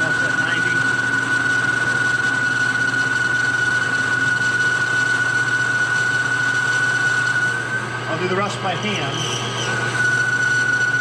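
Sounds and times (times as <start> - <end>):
lathe high whine over low hum: 0.0 - 11.0.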